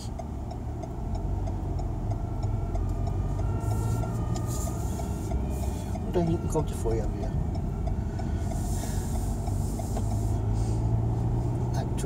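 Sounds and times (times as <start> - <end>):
car engine: 0.0 - 12.0
road rumble: 0.0 - 12.0
turn indicator ticking: 0.0 - 12.0.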